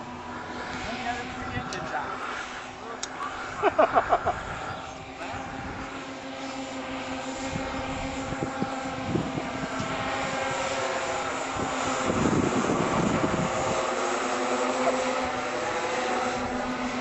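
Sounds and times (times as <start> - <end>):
model plane propeller hum: 0.0 - 17.0.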